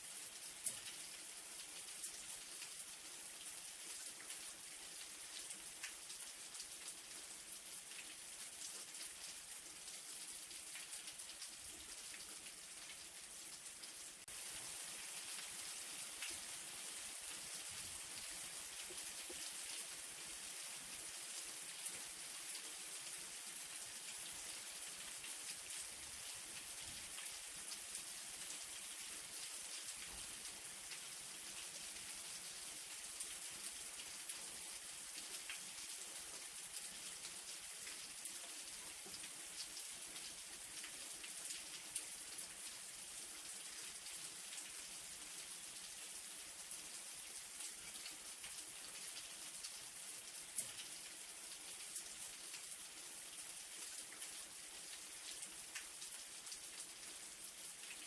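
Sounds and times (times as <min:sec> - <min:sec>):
light rain hissing: 0:00.0 - 0:58.0.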